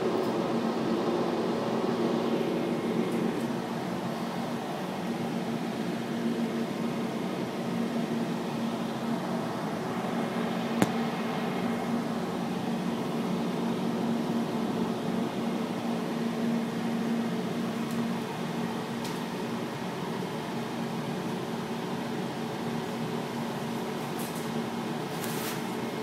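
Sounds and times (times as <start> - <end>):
cable car cabin hum: 0.0 - 21.5.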